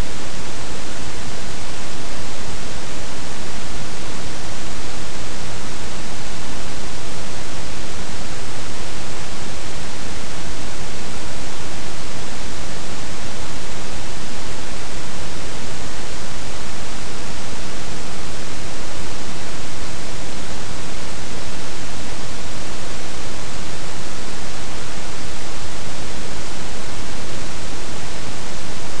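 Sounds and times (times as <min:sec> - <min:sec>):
steady static hiss: 0:00.0 - 0:29.0.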